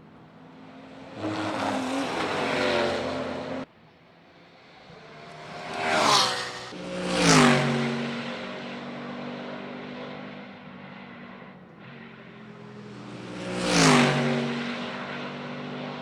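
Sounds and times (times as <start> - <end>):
race car at full throttle: 0.0 - 3.7, 4.3 - 16.0
race car engines passing: 0.1 - 16.0.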